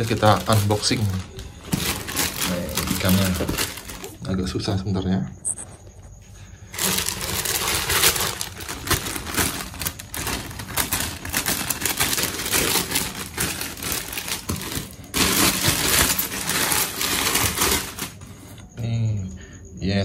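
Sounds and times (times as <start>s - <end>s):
plastic bag crinkling: 0.0s - 4.7s, 6.6s - 18.6s.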